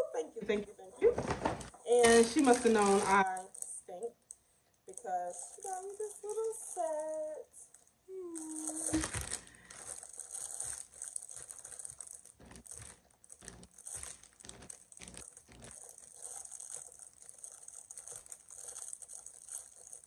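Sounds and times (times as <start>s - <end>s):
cellophane crackling: 1.0s - 20.0s.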